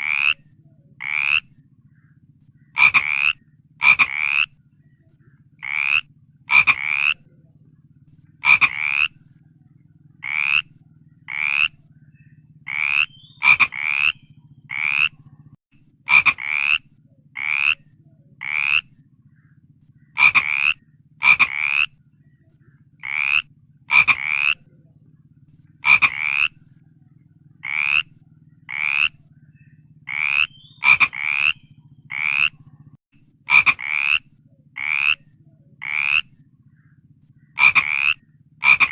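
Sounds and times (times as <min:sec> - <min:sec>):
frog croaking: 0:00.0 - 0:04.6, 0:05.5 - 0:22.1, 0:22.7 - 0:38.9
faint low hum: 0:00.0 - 0:38.9.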